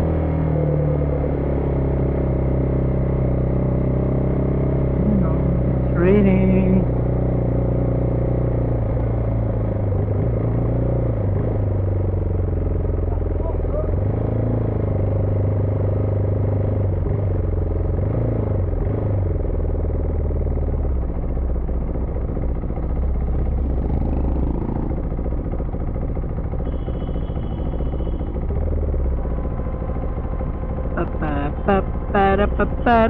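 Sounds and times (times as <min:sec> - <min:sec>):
wind and road noise: 0:00.0 - 0:26.8
motorcycle engine running: 0:00.0 - 0:33.0.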